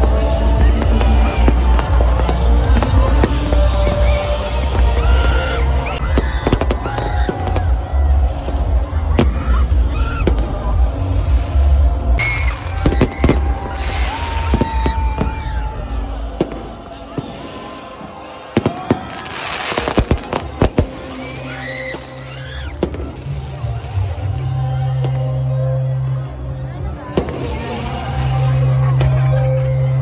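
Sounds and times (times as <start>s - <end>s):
music with heavy bass: 0.0s - 17.6s, 19.2s - 30.0s
fireworks bangs and crackles: 0.0s - 25.3s, 27.1s - 29.3s.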